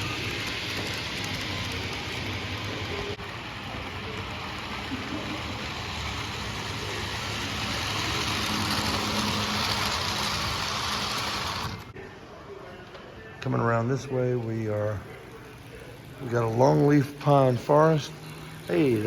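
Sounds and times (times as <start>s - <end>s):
model train running on track: 0.0s - 11.9s, 13.7s - 19.0s.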